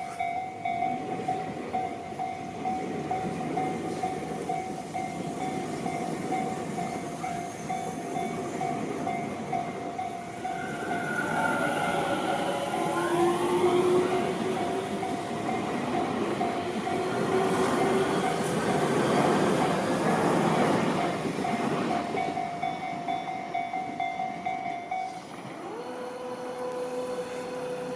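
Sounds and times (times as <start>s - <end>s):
electric train rumbling past: 0.0s - 27.9s.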